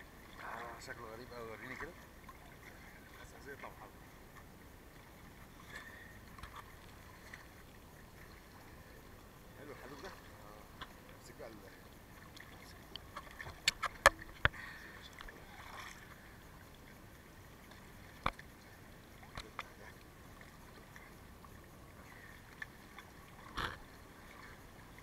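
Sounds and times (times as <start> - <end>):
sea water sloshing and lapping: 0.0 - 25.0.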